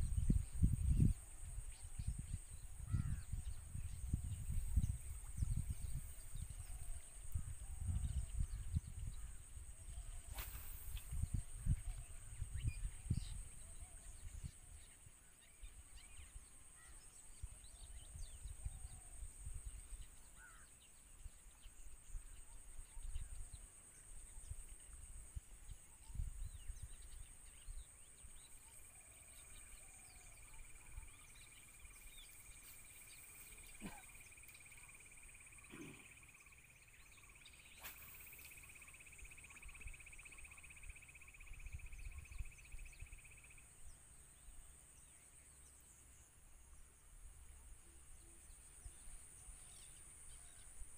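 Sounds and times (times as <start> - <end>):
wind rumbling on microphone: 0.0 - 16.5, 17.1 - 20.5, 21.1 - 43.6
high insect drone: 0.0 - 17.2, 17.8 - 50.9
faint bird chirps: 0.0 - 50.9
lower insect trill: 0.0 - 50.9.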